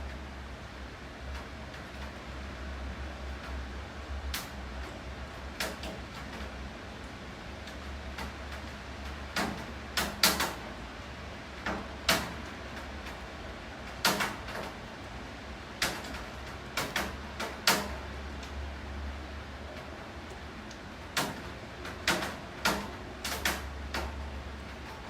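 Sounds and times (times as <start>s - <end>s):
rain drops tapping hard surface: 0.0s - 25.0s.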